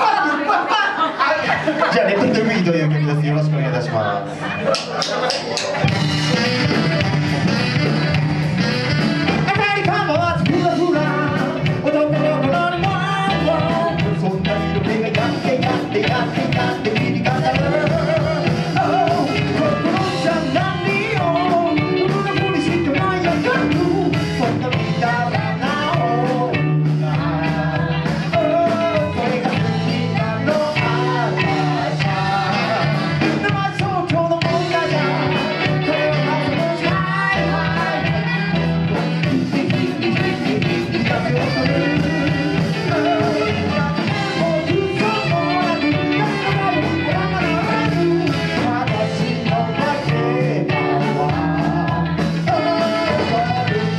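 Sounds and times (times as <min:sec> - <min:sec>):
live rock and roll band: 0:00.0 - 0:53.9
steady bass line: 0:05.6 - 0:53.9
person singing: 0:06.3 - 0:53.9.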